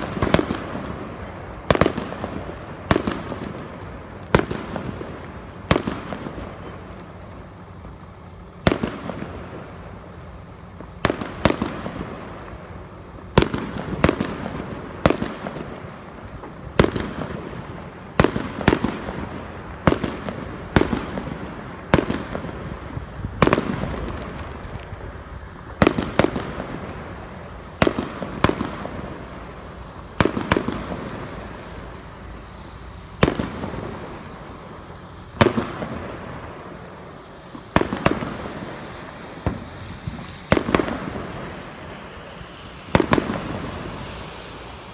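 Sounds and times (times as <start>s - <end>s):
fireworks bursting with echo: 0.0s - 44.9s.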